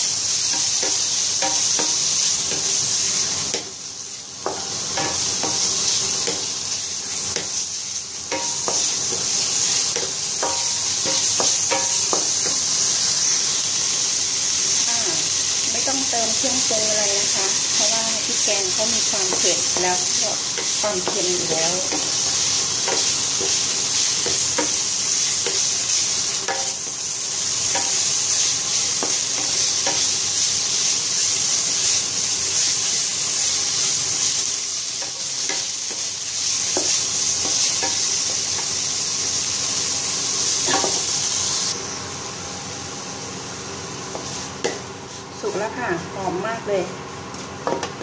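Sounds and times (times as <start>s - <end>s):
meat sizzling in a pan: 0.0s - 46.3s.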